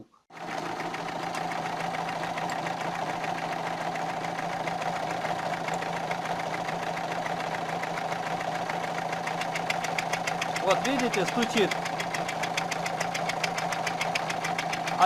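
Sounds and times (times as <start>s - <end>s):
diesel engine idling with knock: 0.3s - 15.0s.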